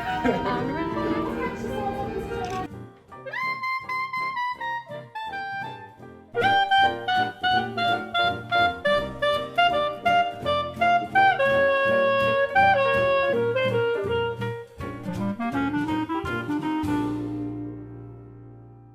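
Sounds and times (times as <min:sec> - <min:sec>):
upbeat jazzy tune: 0:00.0 - 0:18.9.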